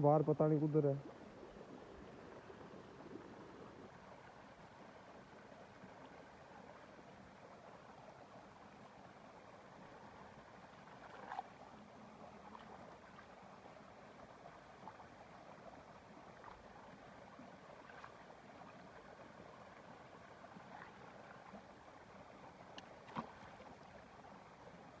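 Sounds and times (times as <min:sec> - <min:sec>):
faint outdoor background hiss: 0:00.0 - 0:25.0.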